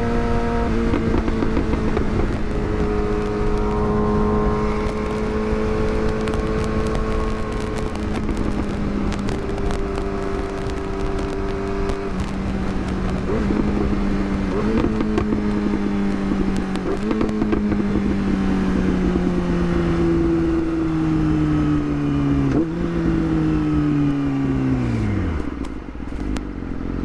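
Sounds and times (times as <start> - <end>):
motorcycle engine running: 0.0 - 27.0
rough wind noise: 0.0 - 27.0.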